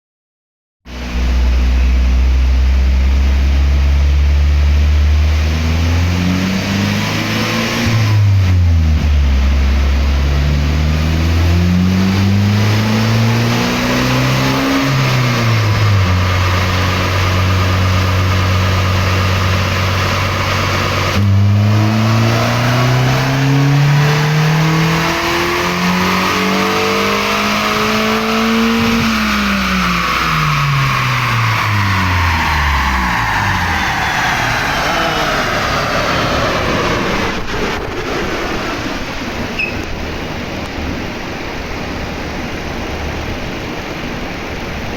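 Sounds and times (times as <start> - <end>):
car engine revving on a dyno: 0.9 - 44.9.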